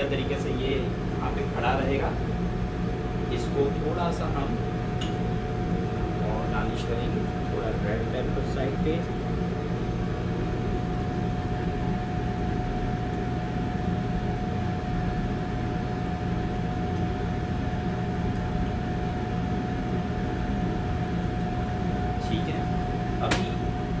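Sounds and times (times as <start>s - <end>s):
kitchen equipment humming: 0.0s - 24.0s
thin constant whine: 0.0s - 24.0s.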